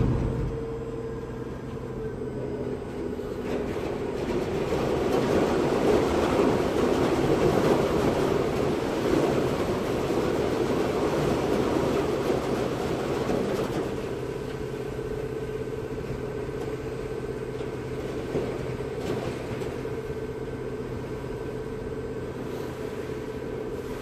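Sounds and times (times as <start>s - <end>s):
ferry engines humming and whining: 0.0s - 24.0s.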